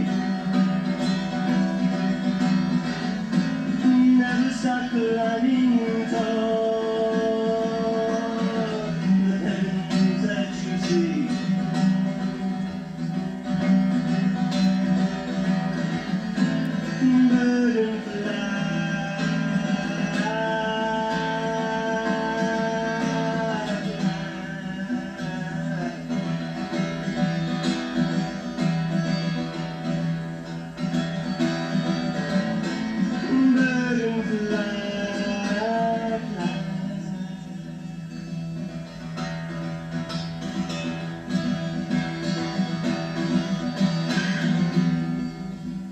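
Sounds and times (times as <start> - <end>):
acoustic guitar strumming chords: 0.0 - 45.9
sliding guitar melody: 0.0 - 45.9.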